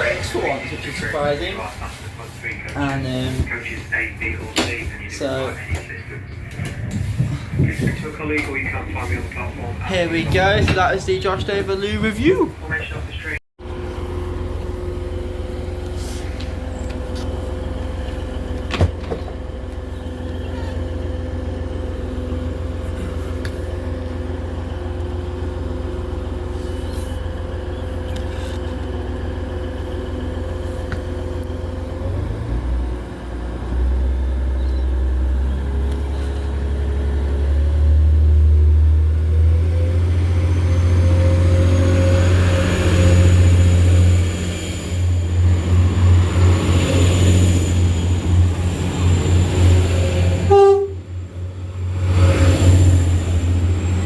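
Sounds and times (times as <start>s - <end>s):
faint high train whine: 0.0s - 32.0s, 37.2s - 54.0s
train rumbling and humming: 0.0s - 54.0s.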